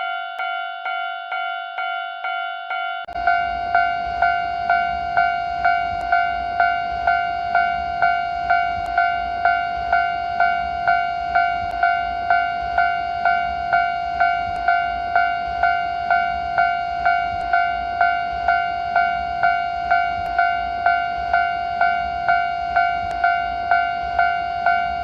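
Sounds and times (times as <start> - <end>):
level-crossing warning bell ringing: 0.0 - 25.0.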